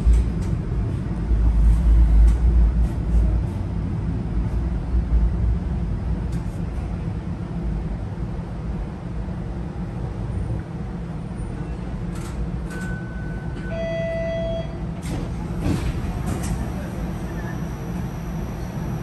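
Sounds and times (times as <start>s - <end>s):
streetcar rumbling: 0.0s - 19.0s.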